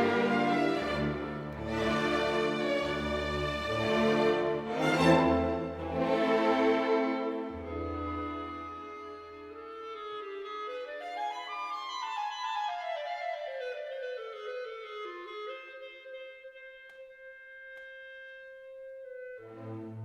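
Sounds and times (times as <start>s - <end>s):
clarinet-like wind melody: 0.0s - 20.0s.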